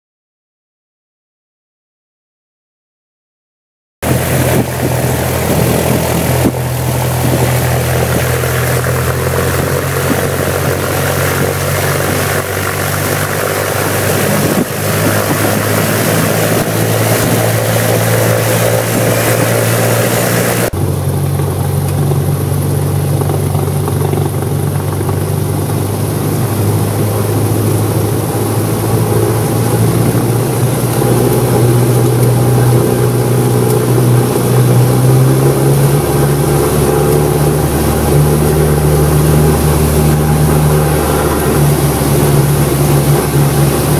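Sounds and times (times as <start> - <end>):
propeller engine drone: 4.0 - 43.9.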